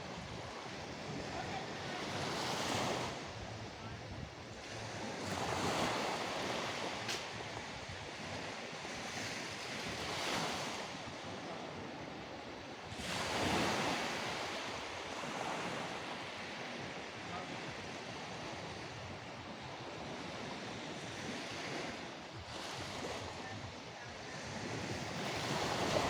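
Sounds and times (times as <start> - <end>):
sea waves washing onto shore: 4.5 - 26.0.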